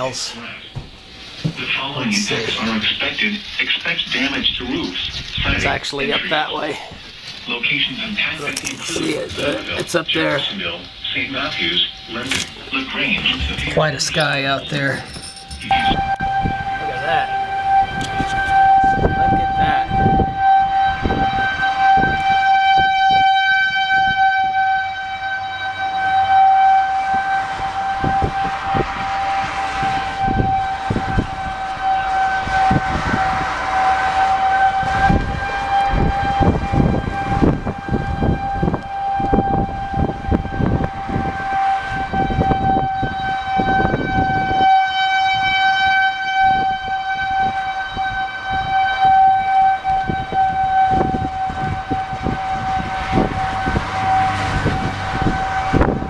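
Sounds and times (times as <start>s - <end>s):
wind rumbling on microphone: 2.7s - 8.3s, 10.4s - 24.3s, 27.0s - 56.0s
warning siren steady tone: 9.8s - 14.3s, 15.0s - 56.0s.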